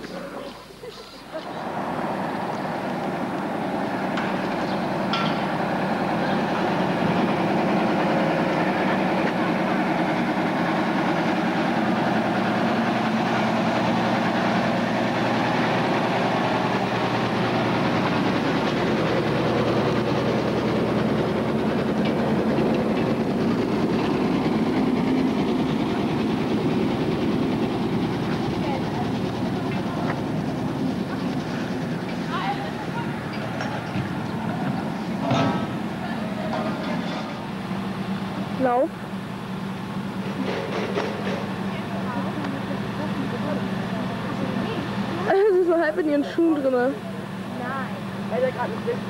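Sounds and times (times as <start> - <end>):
bus engine rattling: 0.0 - 49.0.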